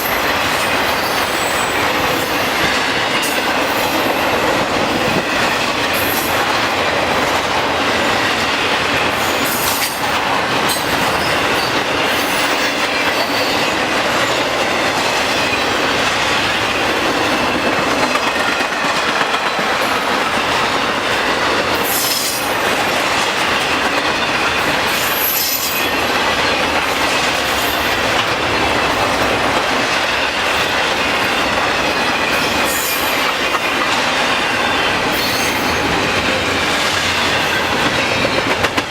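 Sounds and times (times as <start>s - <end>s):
steel train wheels rumbling on rail: 0.0s - 38.9s.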